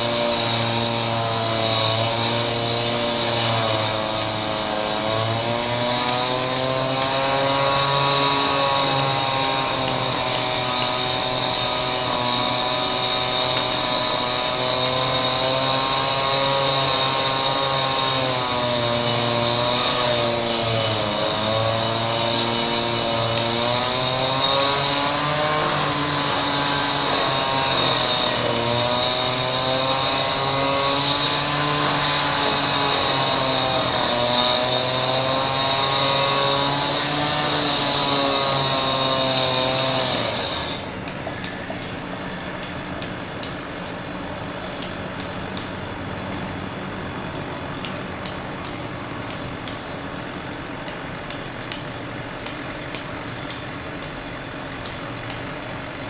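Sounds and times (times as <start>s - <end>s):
concrete saw cutting stone: 0.0s - 56.0s.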